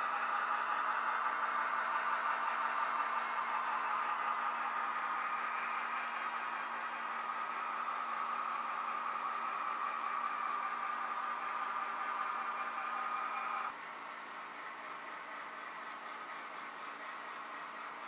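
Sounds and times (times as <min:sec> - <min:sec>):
faint steady hum: 0:00.0 - 0:18.0
model train wheels and motor whirring: 0:00.0 - 0:18.0.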